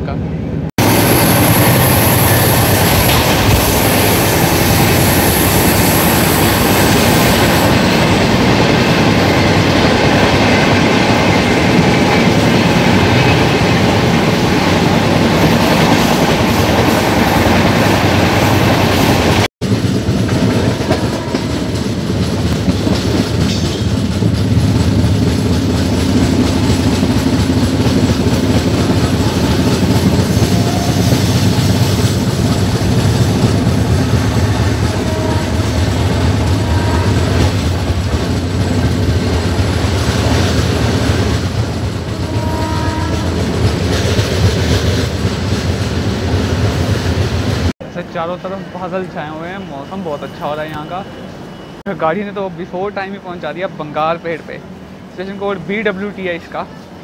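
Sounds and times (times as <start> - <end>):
train rumble and wheel clatter: 0.0 - 57.0.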